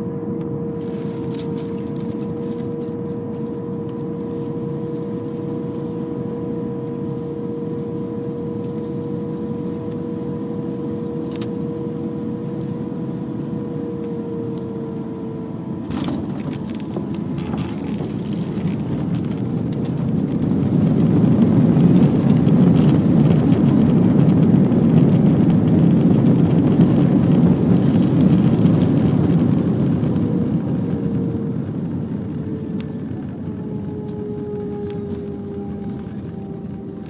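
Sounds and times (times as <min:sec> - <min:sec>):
jet engine whine falling: 0:00.0 - 0:37.0
jet engines reverse thrust roar: 0:00.0 - 0:37.0.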